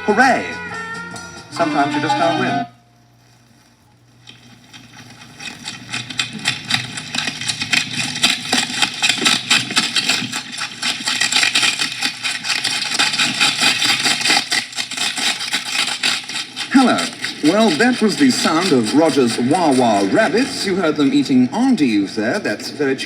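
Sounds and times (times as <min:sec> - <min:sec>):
rabbits crunching food: 0:01.5 - 0:23.0.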